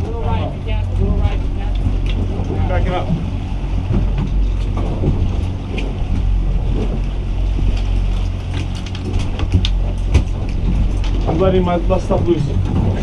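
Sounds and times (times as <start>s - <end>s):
outboard motor droning: 0.0s - 13.0s
water washing past hull: 0.0s - 13.0s
wind buffeting microphone: 0.0s - 13.0s.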